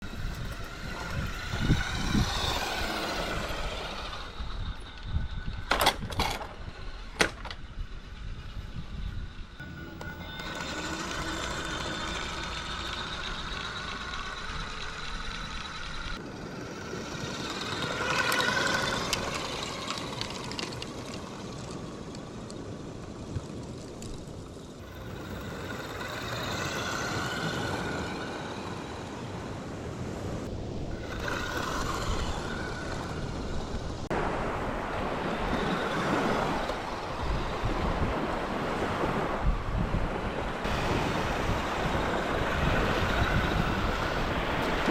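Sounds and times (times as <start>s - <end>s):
wind noise: 0.0s - 16.2s, 17.0s - 44.9s
toy truck electric motor whining: 0.0s - 39.4s, 40.6s - 44.9s.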